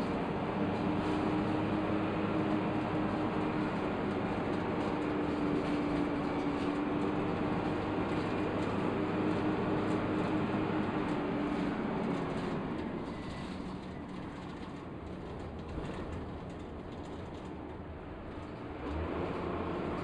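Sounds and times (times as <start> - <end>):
bus engine: 0.0 - 20.0
road noise: 0.0 - 20.0.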